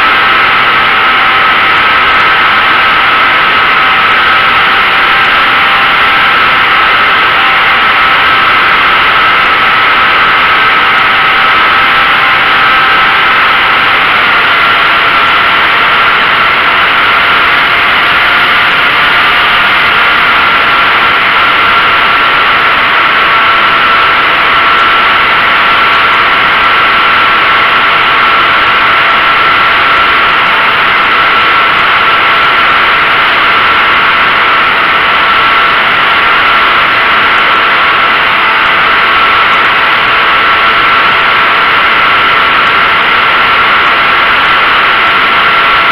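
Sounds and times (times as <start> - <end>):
model airplane motor whine: 0.0 - 45.9.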